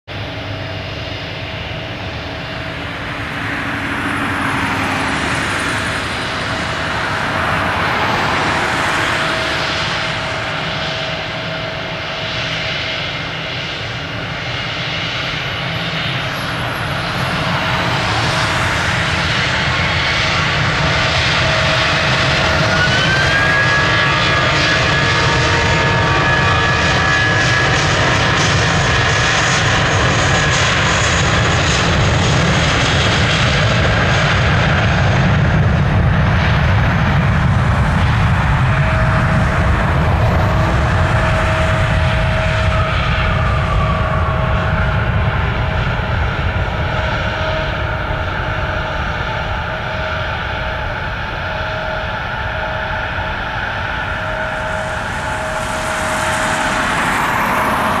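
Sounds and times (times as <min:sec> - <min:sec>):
high engine whine: 0:00.1 - 0:58.0
jet engines spooling up: 0:00.2 - 0:58.0.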